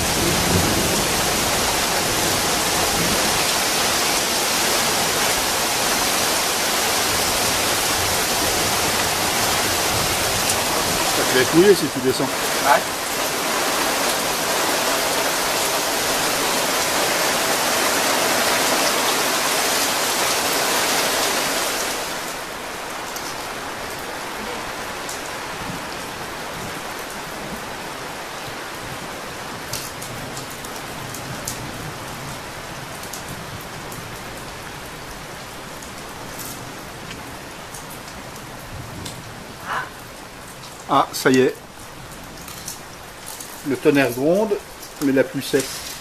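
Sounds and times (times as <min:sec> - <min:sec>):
rain on canvas: 0:00.0 - 0:46.0.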